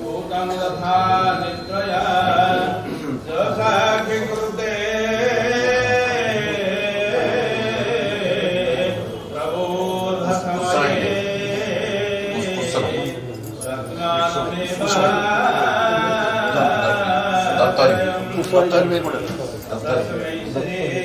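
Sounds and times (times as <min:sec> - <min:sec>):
voices singing a chant: 0:00.0 - 0:21.0.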